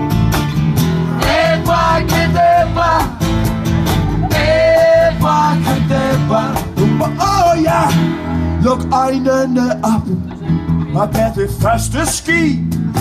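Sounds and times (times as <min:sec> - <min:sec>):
cajon beat: 0:00.0 - 0:13.0
strummed acoustic guitars: 0:00.0 - 0:13.0.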